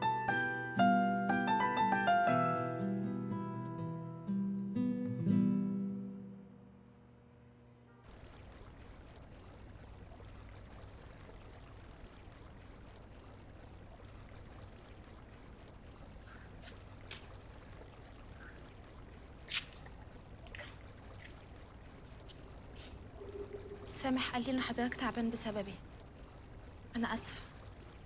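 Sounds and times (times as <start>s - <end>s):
outdoor hiss: 0.0s - 28.0s
low hum: 4.0s - 28.0s.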